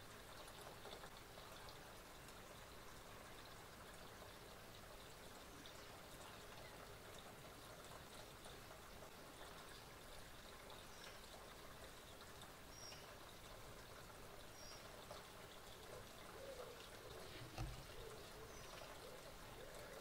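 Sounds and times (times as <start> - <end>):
garden ambience hiss: 0.0 - 20.0.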